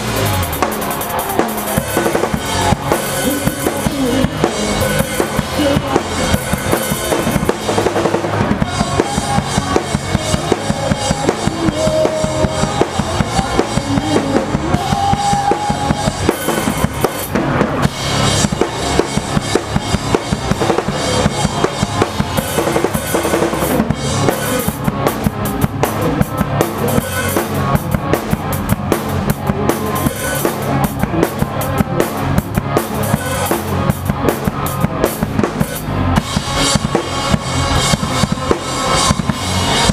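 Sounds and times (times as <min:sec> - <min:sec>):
drum kit kick and snare beat: 0:00.0 - 0:39.9
pop-punk band playing: 0:00.0 - 0:39.9.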